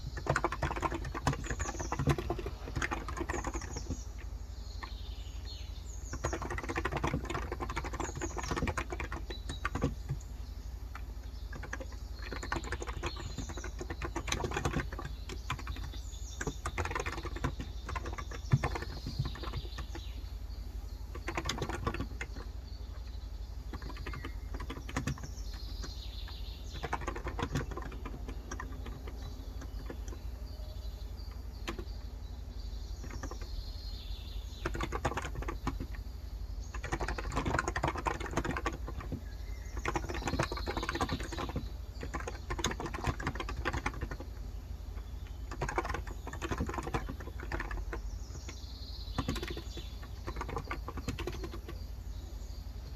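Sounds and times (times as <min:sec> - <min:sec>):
keyboard typing: 0:00.0 - 0:05.0, 0:06.1 - 0:20.2, 0:21.0 - 0:30.5, 0:31.2 - 0:32.1, 0:32.9 - 0:33.6, 0:34.5 - 0:36.1, 0:36.7 - 0:51.9.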